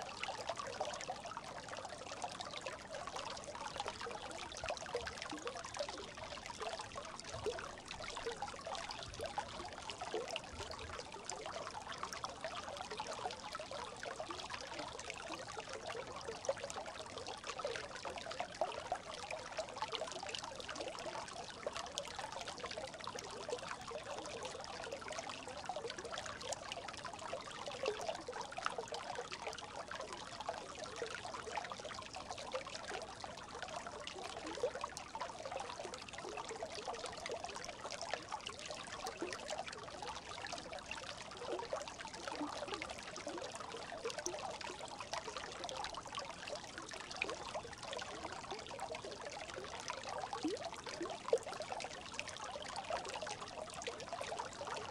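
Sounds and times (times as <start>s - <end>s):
brook babbling: 0.0s - 54.9s.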